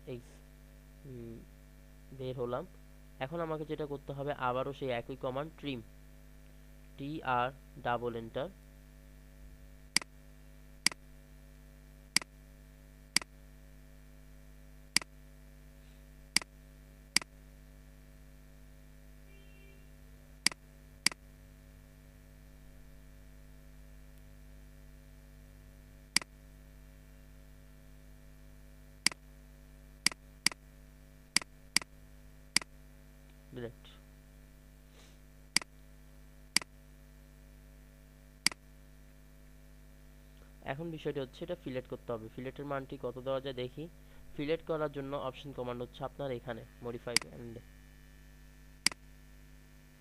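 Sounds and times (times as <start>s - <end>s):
electrical hum: 0.0s - 50.0s.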